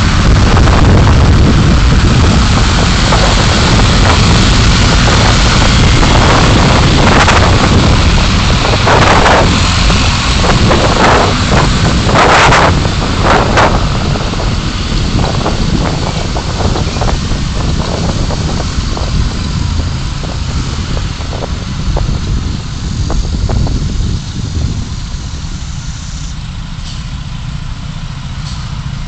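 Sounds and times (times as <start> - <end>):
wind buffeting microphone: 0.0 - 26.0
car road noise: 0.0 - 29.0.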